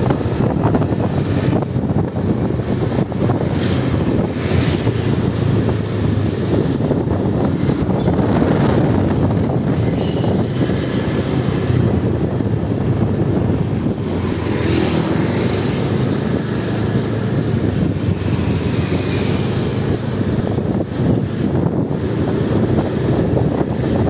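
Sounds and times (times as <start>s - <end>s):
road noise: 0.0s - 24.0s.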